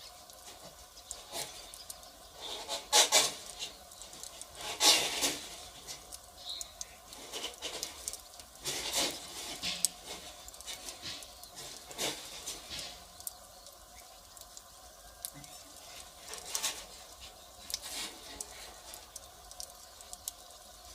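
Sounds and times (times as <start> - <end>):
fire crackling: 0.0 - 20.9.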